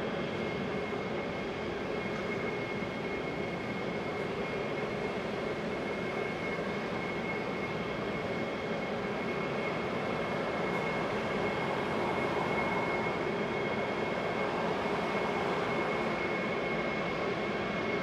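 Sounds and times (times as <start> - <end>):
jet engines rumbling with high whine: 0.0 - 18.0.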